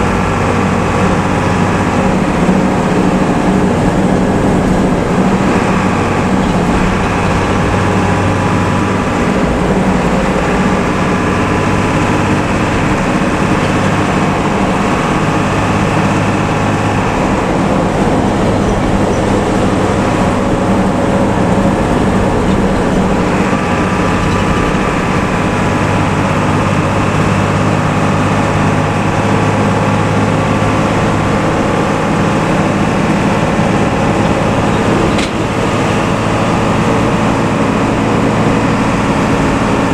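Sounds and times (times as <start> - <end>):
diesel engine through loud exhaust: 0.0 - 39.9.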